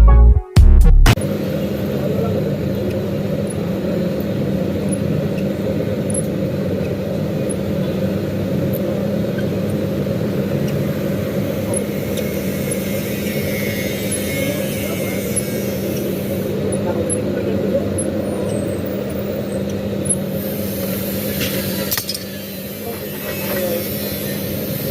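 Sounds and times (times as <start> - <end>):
engine running steadily: 1.2 - 24.8.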